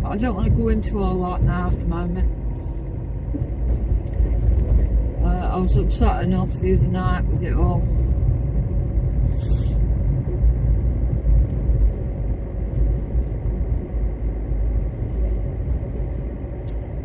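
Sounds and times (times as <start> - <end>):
car rumbling: 0.0 - 17.0.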